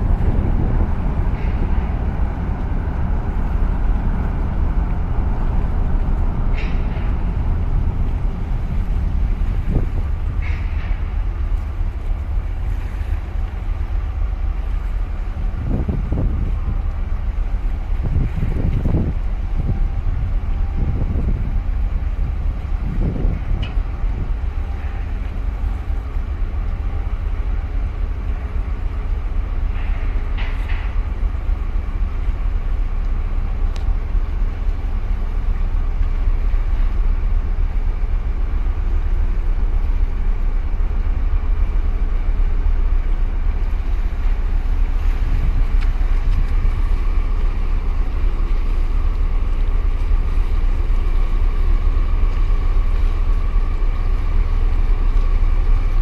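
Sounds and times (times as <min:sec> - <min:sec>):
diesel engine rumble: 0:00.0 - 0:56.0.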